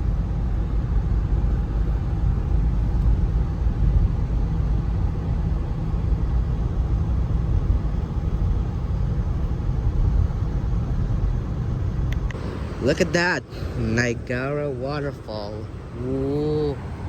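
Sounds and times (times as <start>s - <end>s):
car road noise from inside: 0.0s - 17.0s.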